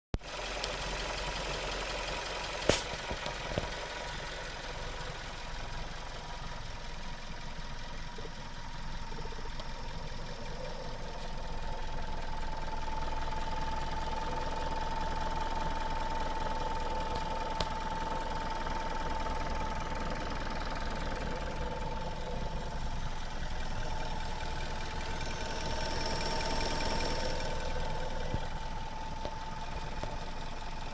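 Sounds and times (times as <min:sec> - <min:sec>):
car engine idling: 0:00.2 - 0:30.9.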